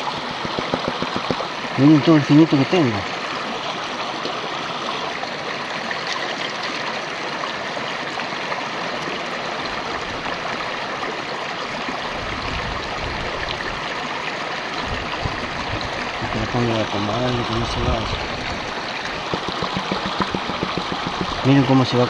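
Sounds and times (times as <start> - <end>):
river water over rocks: 0.0 - 22.0.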